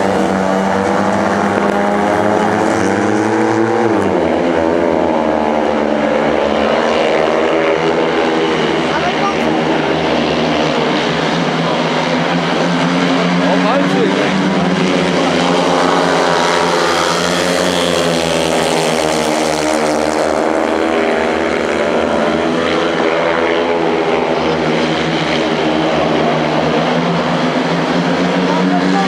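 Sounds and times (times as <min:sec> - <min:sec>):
motorcycle engines racing: 0:00.0 - 0:29.0.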